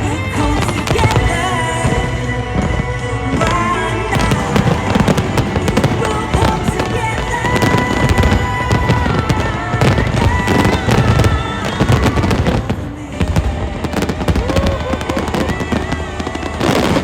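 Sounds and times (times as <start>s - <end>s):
fireworks bursting and crackling: 0.0s - 17.0s
music with long held notes: 0.0s - 17.0s.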